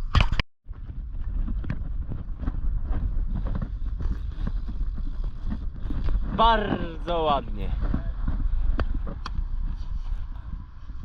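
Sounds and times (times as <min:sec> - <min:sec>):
wind buffeting microphone: 0:00.0 - 0:11.0
steady low rumble: 0:00.7 - 0:11.0.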